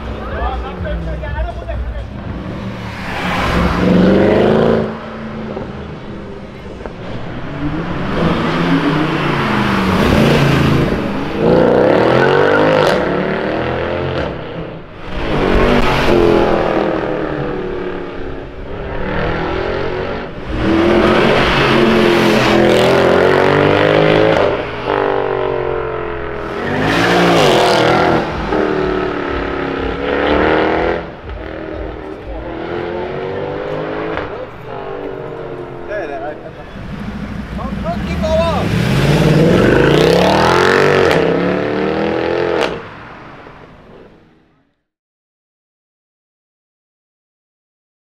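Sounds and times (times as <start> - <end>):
cars accelerating hard past: 2.0 - 44.4.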